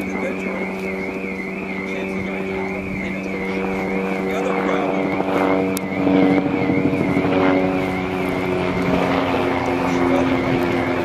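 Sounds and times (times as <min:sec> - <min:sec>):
engine-like drone: 0:00.0 - 0:11.0
wavering high tone: 0:00.0 - 0:11.0.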